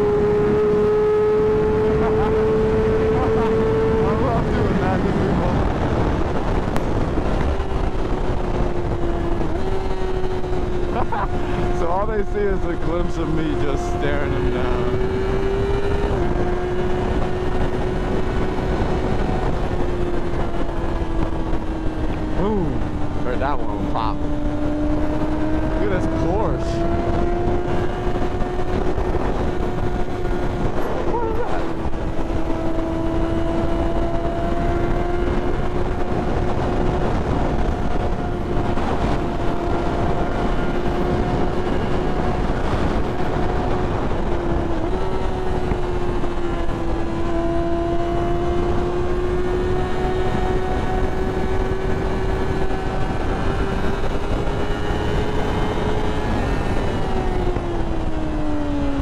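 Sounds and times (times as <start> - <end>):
motorcycle engine high revs: 0.0 - 59.0
wind noise: 0.0 - 59.0.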